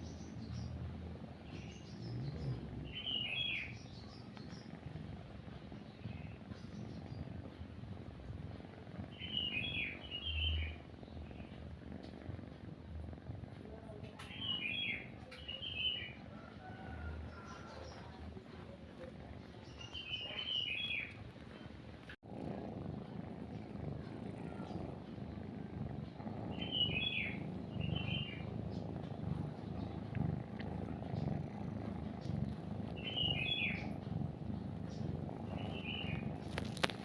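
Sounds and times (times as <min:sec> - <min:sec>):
small bird chirping: 0:00.0 - 0:12.2, 0:13.6 - 0:21.8, 0:22.9 - 0:37.0
cat purring: 0:00.0 - 0:37.0.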